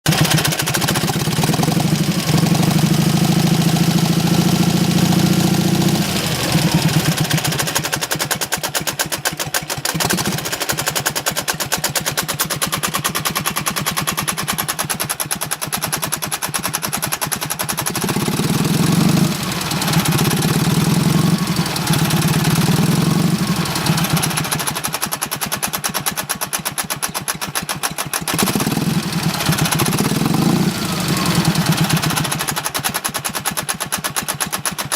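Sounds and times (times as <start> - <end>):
engine knock: 0.0 - 34.9
motorcycle engine idling and revving: 0.0 - 34.9.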